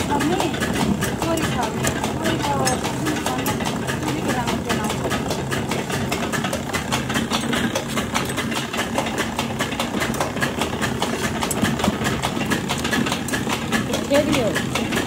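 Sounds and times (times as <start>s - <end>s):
machine hum with rapid clatter: 0.0s - 15.0s.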